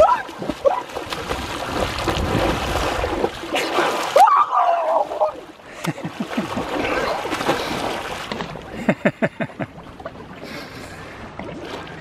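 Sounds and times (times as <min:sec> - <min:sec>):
water splashing from swim strokes: 0:00.0 - 0:12.0.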